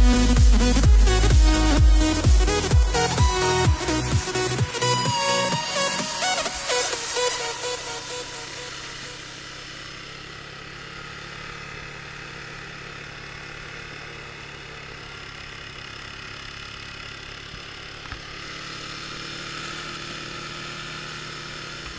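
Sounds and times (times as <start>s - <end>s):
quad engine running steadily: 0.0s - 21.9s.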